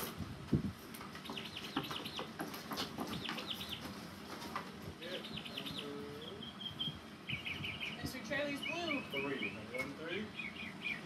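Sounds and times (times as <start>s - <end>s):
bird chirping: 1.1s - 4.0s, 5.0s - 11.0s.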